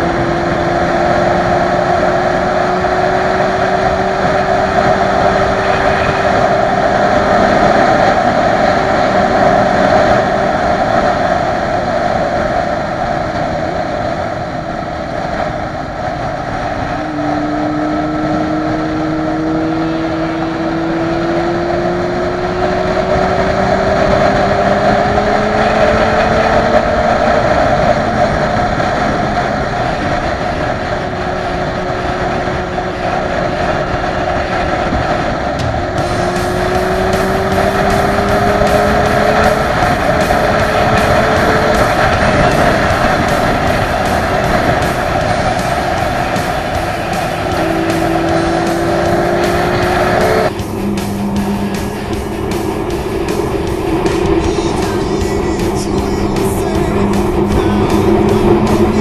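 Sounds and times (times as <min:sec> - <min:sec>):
motorcycle engine accelerating: 0:00.0 - 0:59.0
wind and road rush: 0:00.0 - 0:59.0.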